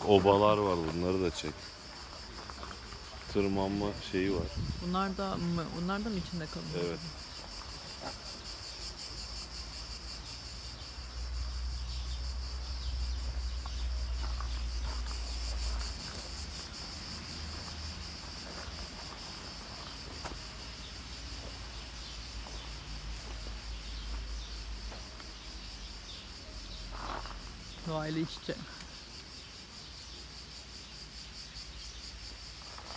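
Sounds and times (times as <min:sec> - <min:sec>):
insect chorus: 0:00.0 - 0:32.9.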